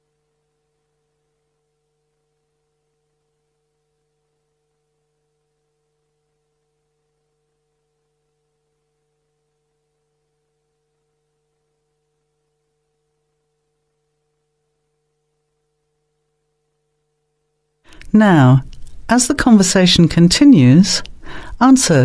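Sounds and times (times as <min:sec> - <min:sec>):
faint hum of held tones: 0:00.0 - 0:22.0
low hiss: 0:00.0 - 0:22.0.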